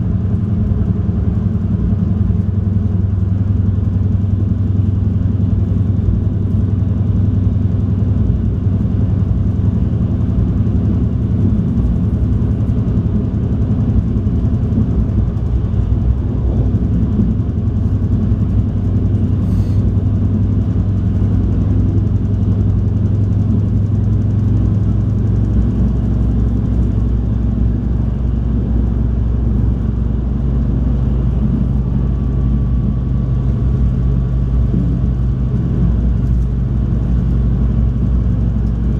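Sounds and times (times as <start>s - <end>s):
diesel engine rumble: 0.0s - 38.9s.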